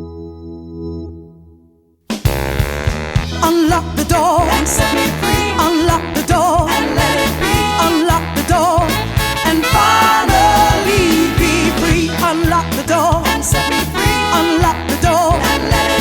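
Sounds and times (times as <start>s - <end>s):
steady drum beat: 2.1s - 16.0s
upbeat swing song: 2.1s - 16.0s.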